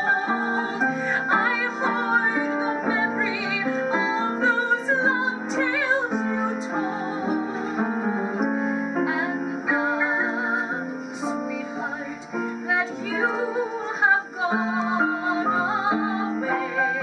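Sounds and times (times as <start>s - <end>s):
piano accompaniment: 0.0s - 17.0s
woman singing a slow ballad: 0.0s - 17.0s.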